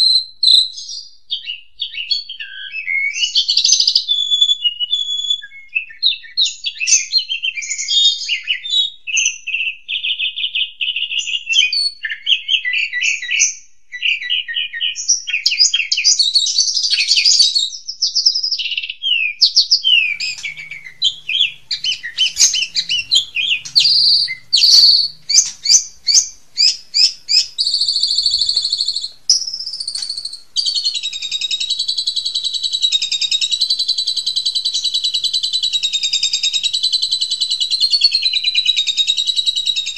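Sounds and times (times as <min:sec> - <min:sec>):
songbird singing trills: 0:00.0 - 0:08.9, 0:14.6 - 0:39.9.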